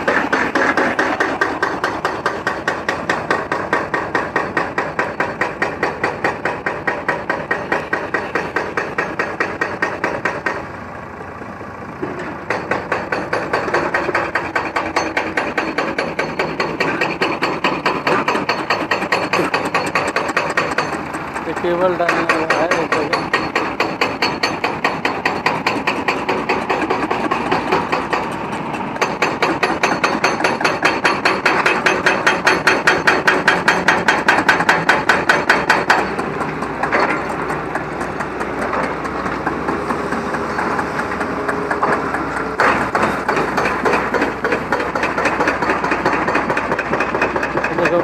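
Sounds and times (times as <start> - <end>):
machinery hammering sharp knocks: 0.0 - 10.7, 12.0 - 48.0.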